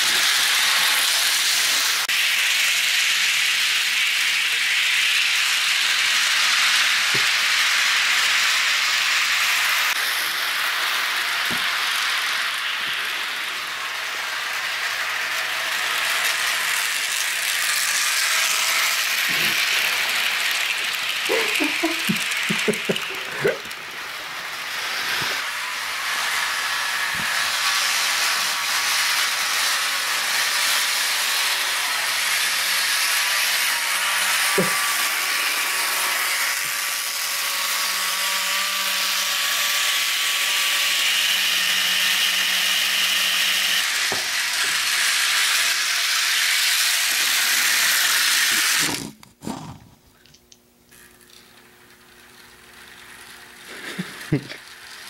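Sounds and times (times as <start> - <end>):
model train motor whirring: 0.0 - 50.3, 50.9 - 55.0.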